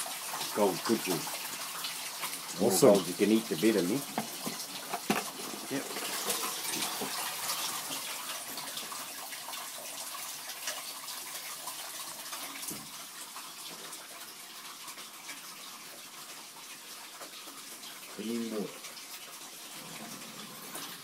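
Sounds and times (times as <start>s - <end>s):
water running into plastic bottle: 0.0s - 21.0s.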